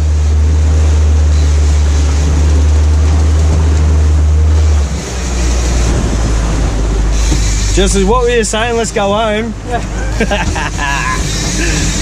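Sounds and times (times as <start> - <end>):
outboard motor drone: 0.0 - 12.0
rushing wake water: 0.0 - 12.0
wind: 0.0 - 12.0.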